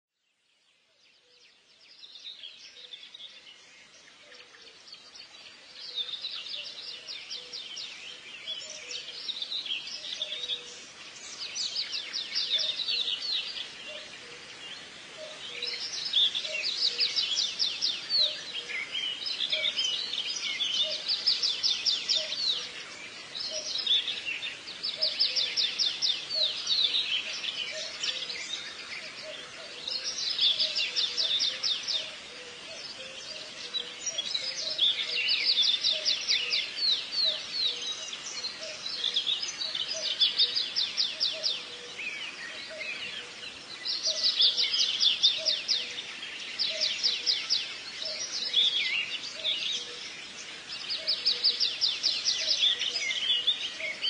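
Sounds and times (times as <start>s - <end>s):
songbird singing rapid trills: 0.3s - 54.0s.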